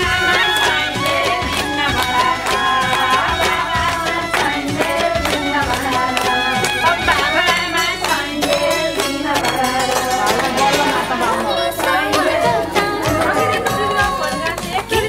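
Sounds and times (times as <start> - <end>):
percussion strikes: 0.0 - 15.0.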